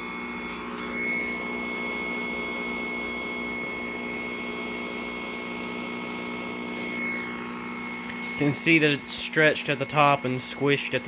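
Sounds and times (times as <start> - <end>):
television buzzing: 0.0 - 11.0
thin high tone: 0.2 - 5.3, 6.0 - 11.0.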